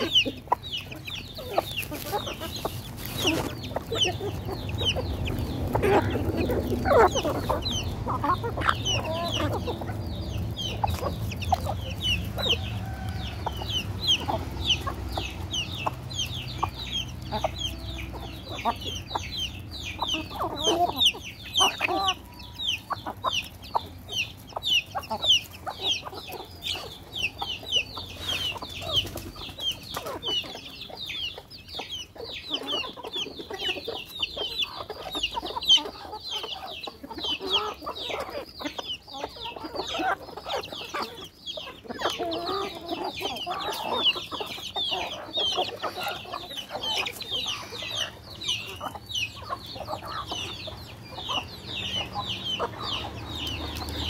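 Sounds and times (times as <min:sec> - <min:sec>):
chickens chirping: 0:00.0 - 0:54.0
chickens clucking: 0:00.0 - 0:54.0.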